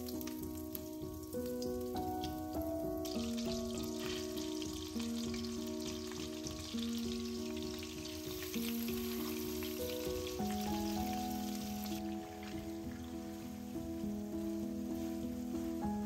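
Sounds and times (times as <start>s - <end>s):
food sizzling in a pan: 0.0s - 16.0s
soft background music: 0.0s - 16.0s.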